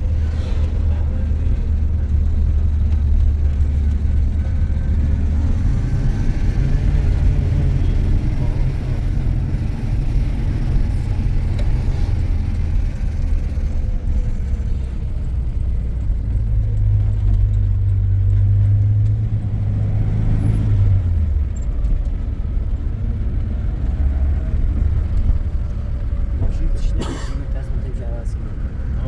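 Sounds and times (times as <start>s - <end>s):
road vehicle rumbling: 0.0s - 29.0s.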